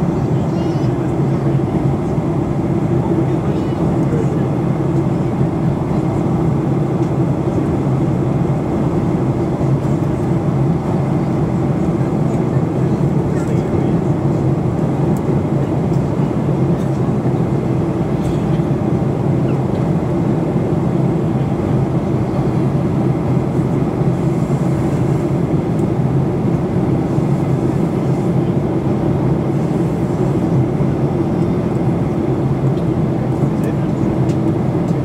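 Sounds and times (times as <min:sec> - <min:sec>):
jet engine drone: 0:00.0 - 0:35.0.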